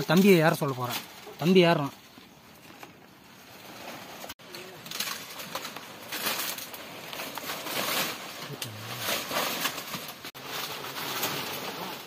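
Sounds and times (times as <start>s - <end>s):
dry palm fronds rustling: 0.0s - 12.0s.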